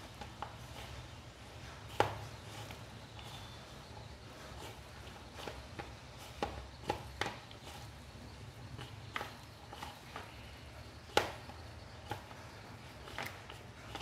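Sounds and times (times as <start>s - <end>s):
hand kneading mixture in plastic bowl: 0.0s - 14.0s.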